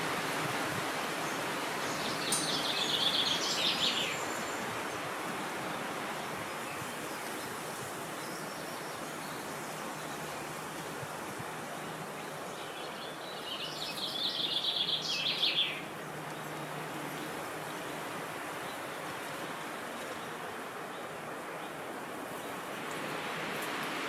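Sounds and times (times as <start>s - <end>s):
steady wind: 0.0s - 24.0s
songbird singing: 1.1s - 23.5s.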